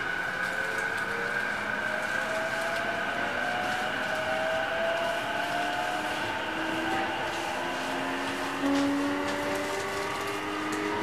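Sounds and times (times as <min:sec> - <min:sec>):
train running gear rumble: 0:00.0 - 0:11.0
train traction motors whining: 0:00.0 - 0:11.0.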